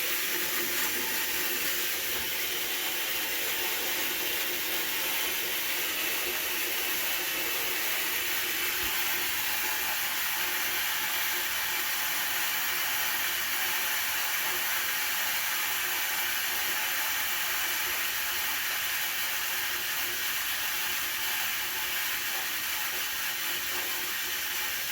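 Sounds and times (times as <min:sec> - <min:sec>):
water rushing through valve: 0:00.0 - 0:24.9.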